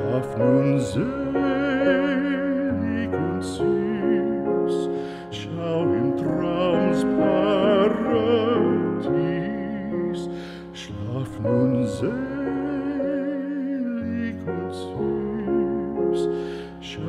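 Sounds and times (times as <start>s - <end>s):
slow gentle background music: 0.0s - 17.0s.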